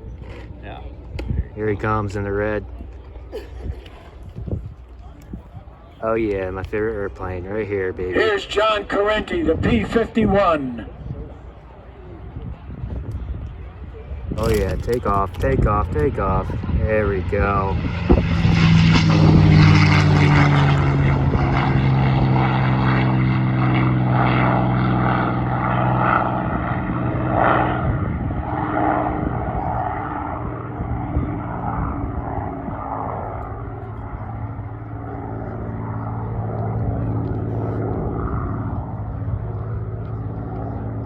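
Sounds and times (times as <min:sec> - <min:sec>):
propeller plane engine taking off: 0:00.0 - 0:41.0.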